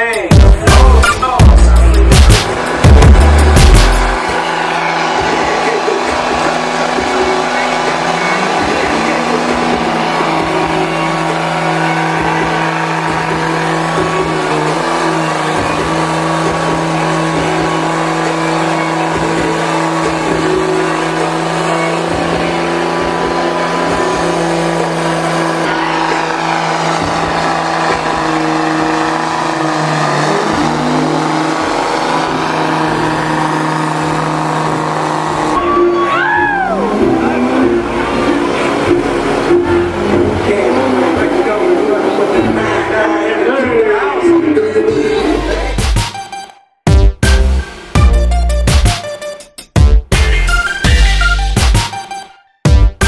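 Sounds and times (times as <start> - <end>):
truck engines running hard: 0.0 - 53.0.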